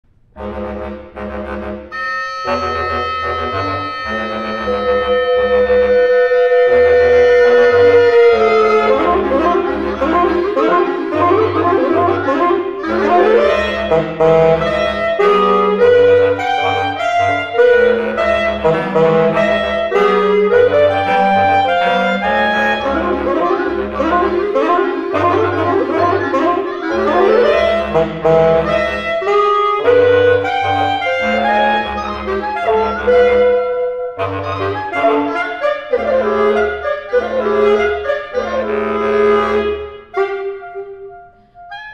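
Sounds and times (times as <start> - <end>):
bass clarinet: 0.1 - 41.9
bassoon: 0.1 - 41.9
clarinet: 0.1 - 41.9
oboe: 0.4 - 41.9
saxophone: 0.4 - 41.9.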